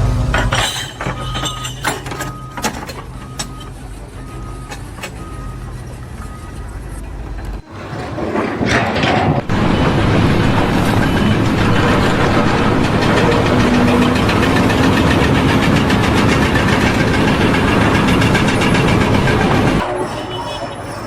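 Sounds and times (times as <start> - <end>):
heavy engine running: 0.0 - 20.9
vehicle reversing alarm beeping: 1.2 - 7.7, 9.0 - 21.0.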